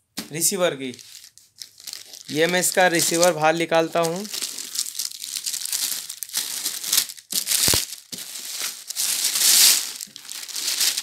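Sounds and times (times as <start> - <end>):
plastic wrapping crinkling: 0.8 - 11.0.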